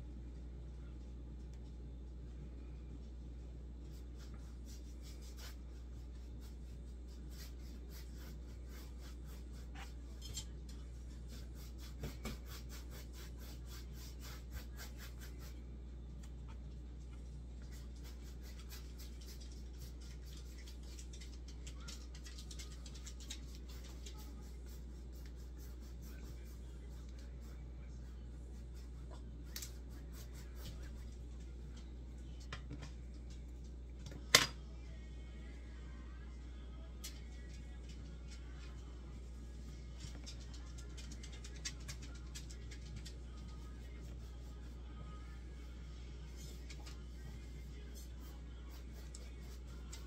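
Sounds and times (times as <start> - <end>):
low hum: 0.0 - 11.9, 13.1 - 50.0
painting supplies rubbing and ticking: 3.7 - 33.9, 37.0 - 50.0.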